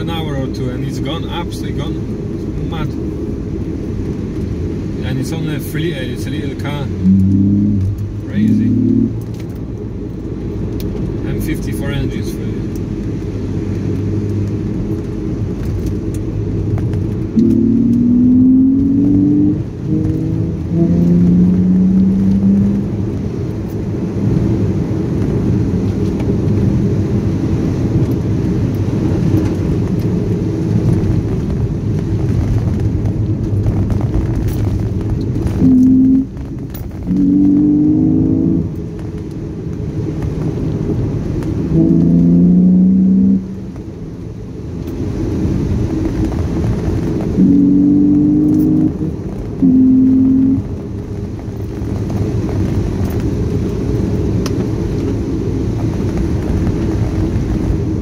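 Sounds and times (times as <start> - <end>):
car engine accelerating: 0.0 - 58.0
road rumble: 0.0 - 58.0.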